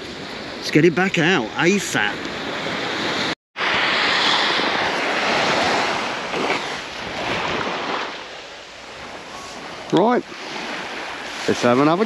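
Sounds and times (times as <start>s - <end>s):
surf washing on beach: 0.0s - 12.0s
wind on microphone: 1.7s - 12.0s.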